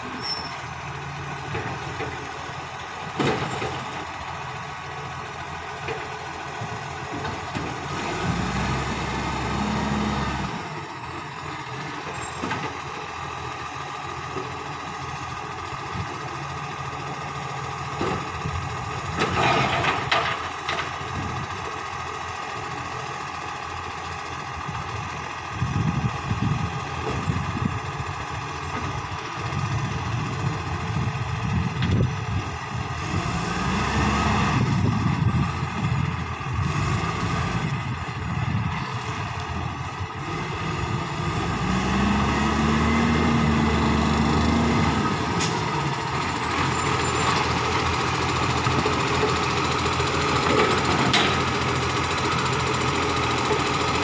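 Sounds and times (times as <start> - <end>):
diesel truck engine revving: 0.0 - 20.0, 20.6 - 54.0.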